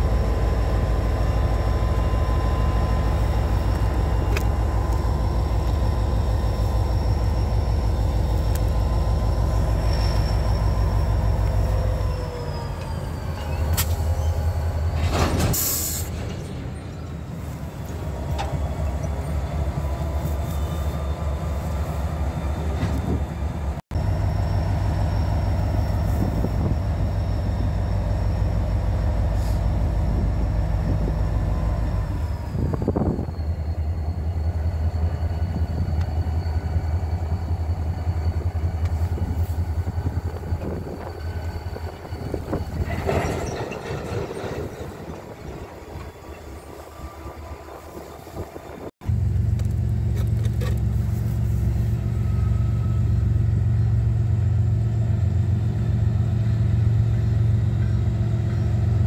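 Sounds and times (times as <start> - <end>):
diesel locomotive engine throbbing: 0.0 - 59.0.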